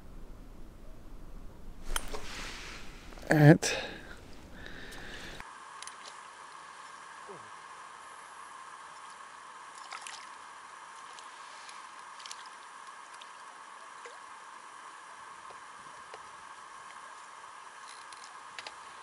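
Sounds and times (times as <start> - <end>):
steady waterside hiss: 1.8 - 19.0.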